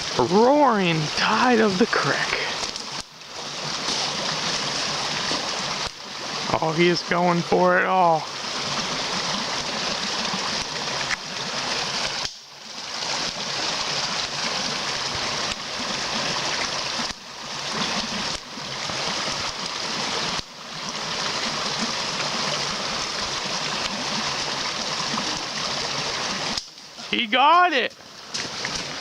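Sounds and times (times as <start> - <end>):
creek rushing: 0.0 - 29.0.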